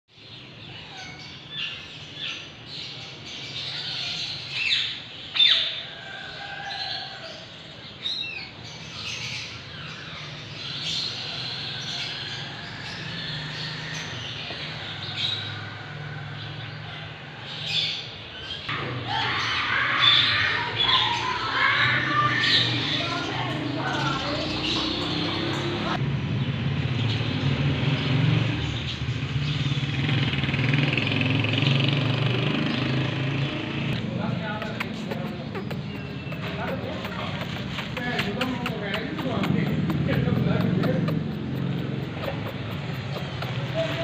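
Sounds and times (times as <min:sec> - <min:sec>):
birds chirping and squawking: 0:00.1 - 0:44.0.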